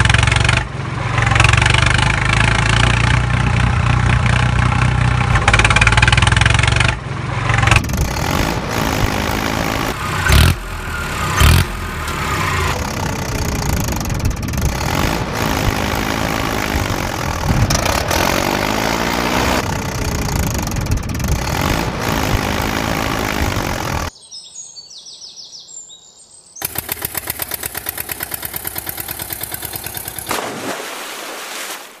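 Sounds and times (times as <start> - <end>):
tractor engine running: 0.0 - 24.1, 26.6 - 30.5.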